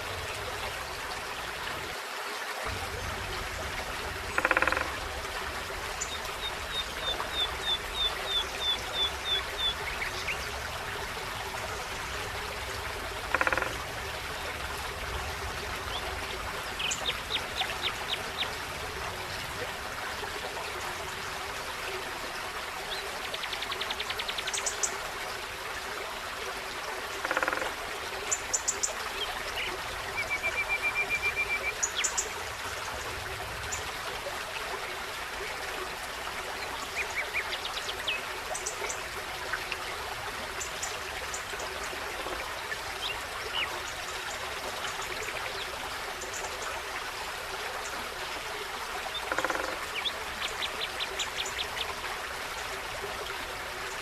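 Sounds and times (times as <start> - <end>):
stream trickling: 0.0 - 54.0.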